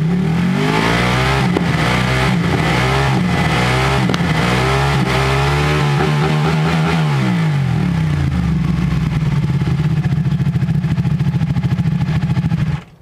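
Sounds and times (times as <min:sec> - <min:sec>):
motorcycle engine idling: 0:01.3 - 0:06.8, 0:07.5 - 0:13.0.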